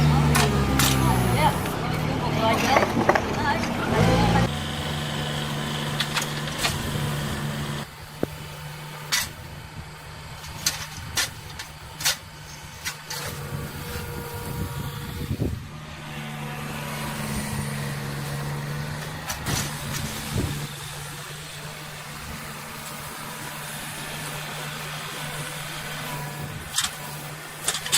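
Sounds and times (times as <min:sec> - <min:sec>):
diesel machinery engine hum: 0:00.0 - 0:27.9.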